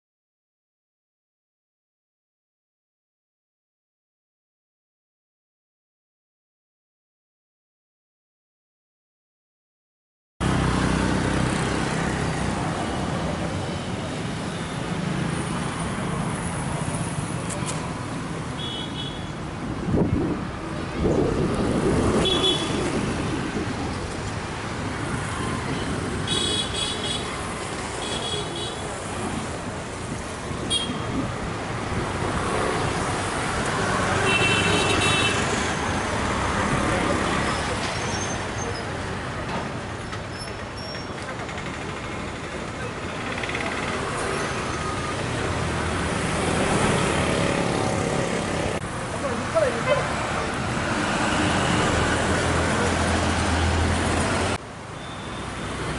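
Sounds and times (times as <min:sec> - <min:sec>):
street traffic noise: 0:10.4 - 0:55.9.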